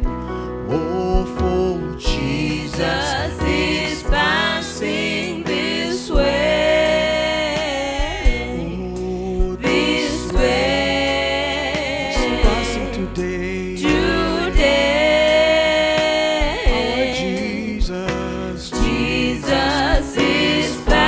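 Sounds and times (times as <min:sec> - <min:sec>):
bass and drum beat: 0:00.0 - 0:00.3, 0:01.1 - 0:21.0
gospel singing voices: 0:00.0 - 0:21.0.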